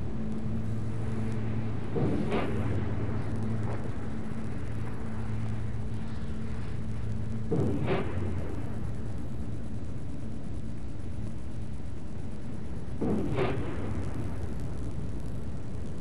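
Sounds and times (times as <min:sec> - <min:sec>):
large fire burning: 0:00.0 - 0:16.0.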